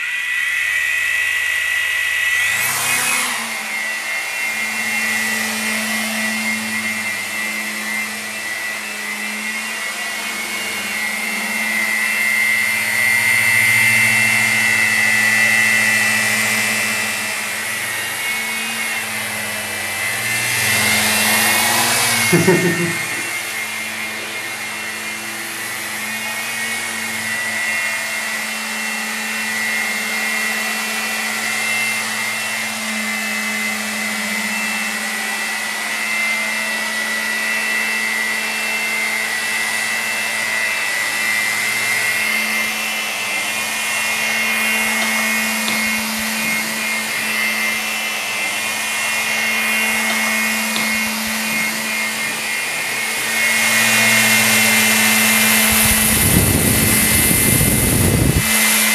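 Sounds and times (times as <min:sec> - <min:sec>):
rc helicopter rotor whine: 0:00.0 - 0:58.9.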